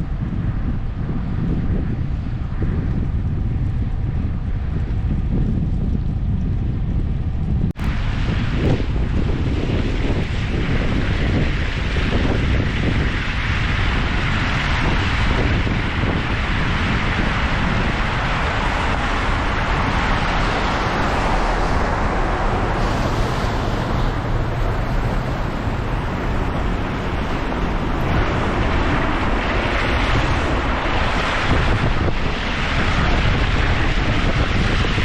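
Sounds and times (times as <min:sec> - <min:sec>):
wind blowing across microphone: 0:00.0 - 0:35.0.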